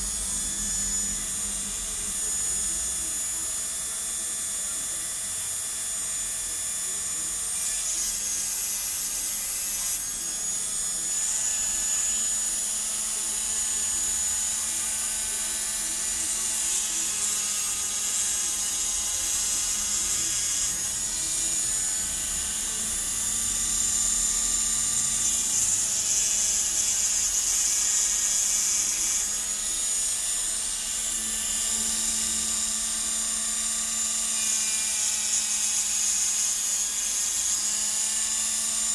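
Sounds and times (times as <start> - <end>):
electric hand grinder whining: 0.0 - 38.9.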